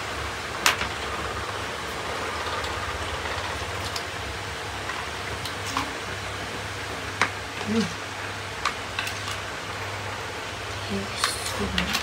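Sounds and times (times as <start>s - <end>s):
noodles simmering hiss: 0.0s - 12.0s.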